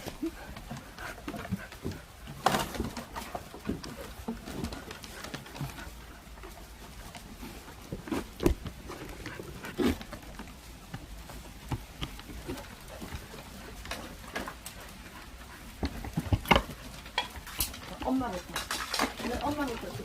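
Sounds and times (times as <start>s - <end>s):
sharp clicks and knocks: 0.0s - 20.0s.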